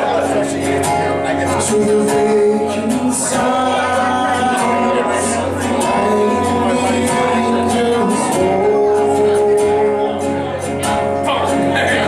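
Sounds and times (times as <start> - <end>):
man singing long notes: 0.0 - 10.6
acoustic guitar strummed: 0.0 - 12.0.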